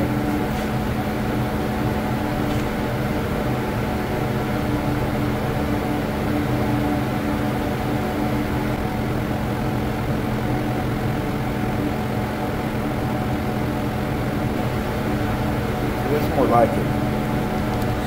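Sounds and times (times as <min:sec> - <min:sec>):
fan motors humming: 0:00.0 - 0:18.0.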